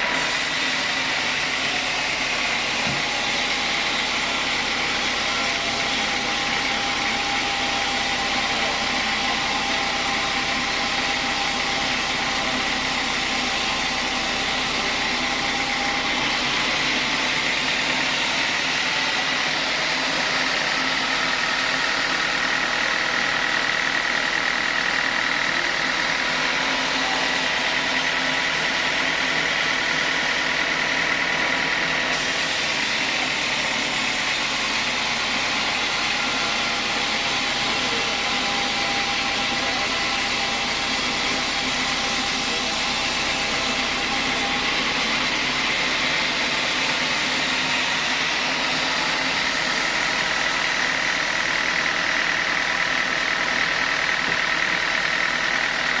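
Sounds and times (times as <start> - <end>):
sawmill saw whining: 0.0 - 56.0.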